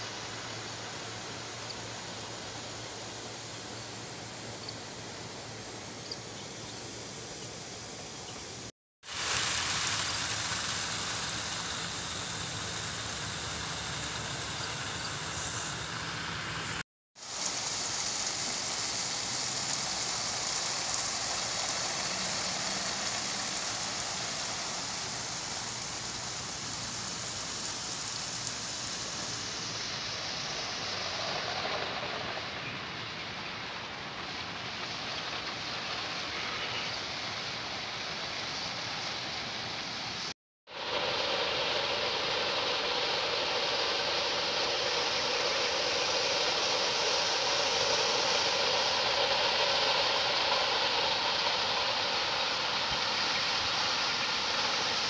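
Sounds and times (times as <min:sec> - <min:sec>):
sprinklers spraying water: 0:00.0 - 0:55.0.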